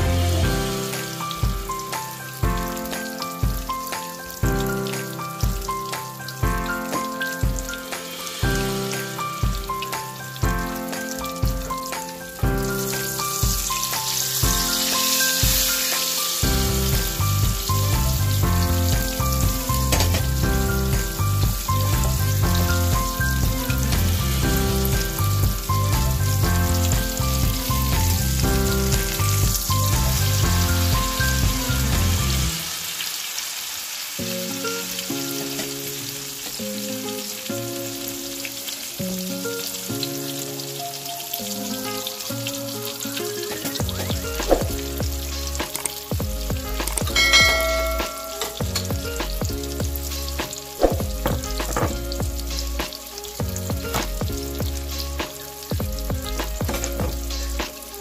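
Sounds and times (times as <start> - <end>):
background music: 0.0 - 33.3, 34.2 - 58.0
food sizzling in oil: 0.0 - 58.0.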